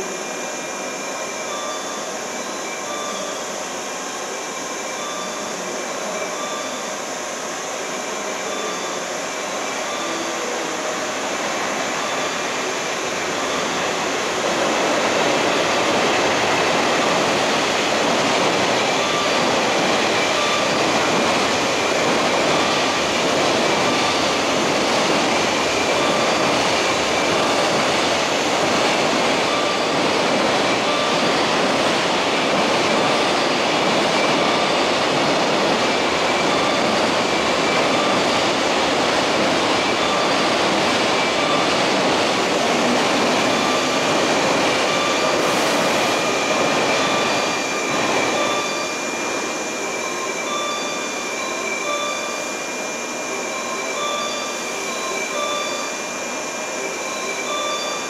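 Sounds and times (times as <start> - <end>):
train rushing and rumbling: 7.4 - 58.0.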